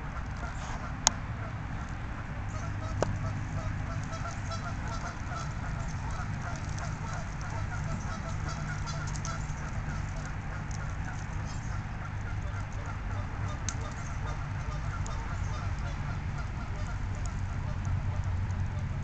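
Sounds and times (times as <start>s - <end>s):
birds calling: 0.0s - 19.0s
steady low hum: 0.0s - 19.0s.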